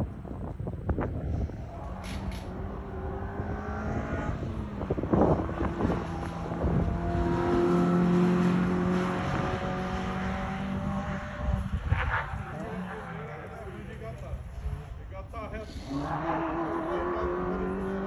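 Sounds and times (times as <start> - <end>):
car engine revving: 1.0 - 18.0.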